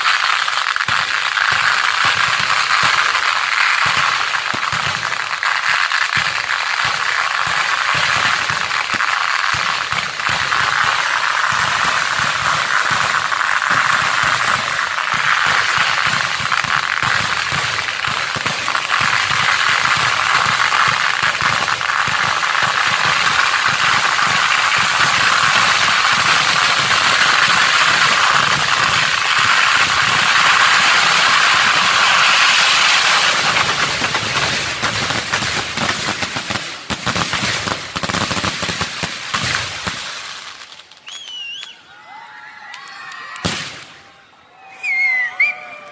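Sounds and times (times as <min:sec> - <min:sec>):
fireworks and firecrackers crackling: 0:00.0 - 0:45.9.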